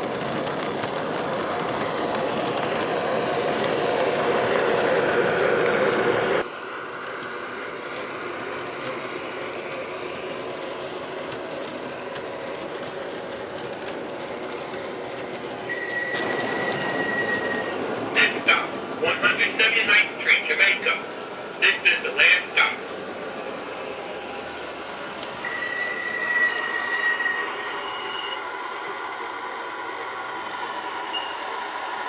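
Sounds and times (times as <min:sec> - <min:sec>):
model train running sounds: 0:00.0 - 0:32.0.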